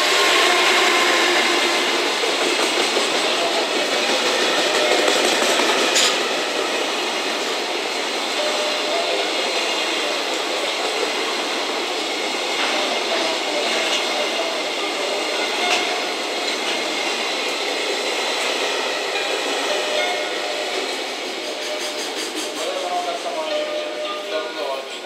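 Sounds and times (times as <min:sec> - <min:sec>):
freight train rolling past: 0:00.0 - 0:25.0
wheels clacking over track: 0:01.2 - 0:22.8.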